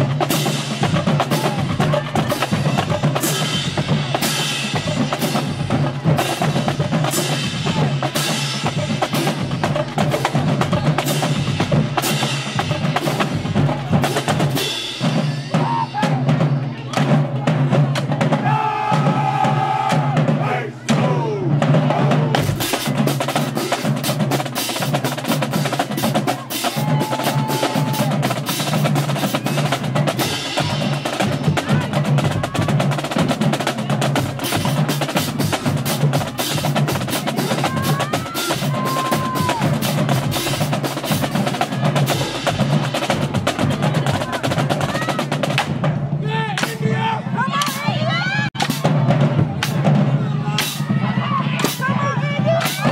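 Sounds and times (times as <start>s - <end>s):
drumline playing cadence: 0.0s - 52.9s
snare drum rolls: 0.0s - 52.9s.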